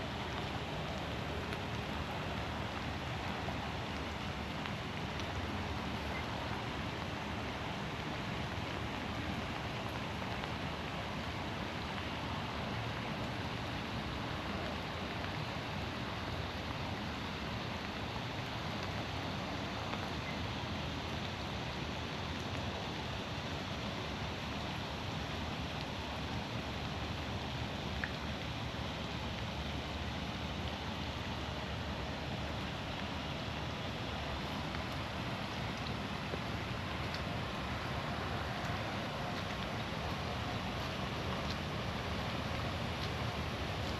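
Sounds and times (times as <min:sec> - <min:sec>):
rain falling through trees: 0:00.0 - 0:43.9.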